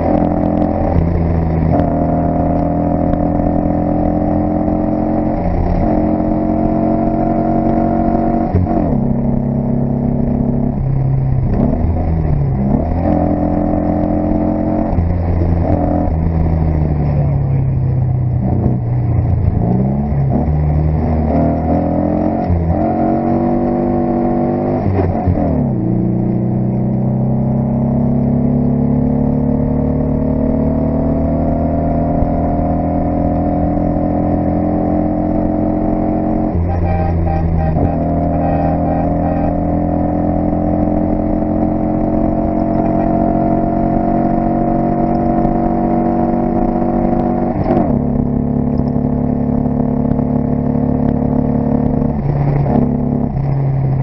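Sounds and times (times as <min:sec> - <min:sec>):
rally car engine accelerating hard: 0:00.0 - 0:54.0.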